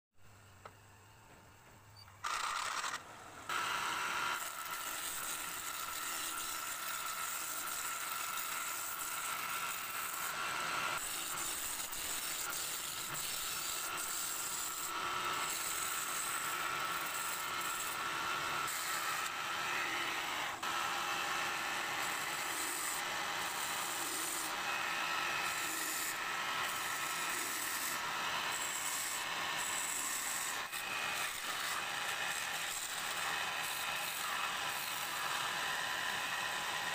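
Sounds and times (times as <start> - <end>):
lathe tool scraping wood: 2.2 - 36.9
wood lathe running tone: 2.2 - 36.9.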